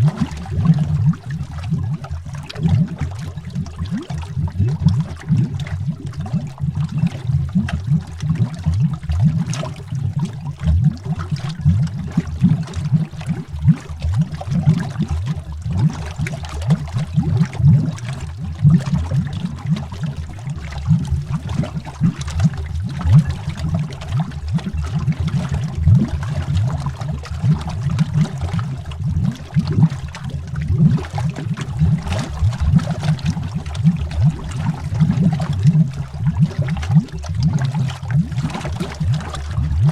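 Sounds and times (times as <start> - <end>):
bubbles gurgling underwater: 0.0 - 39.9.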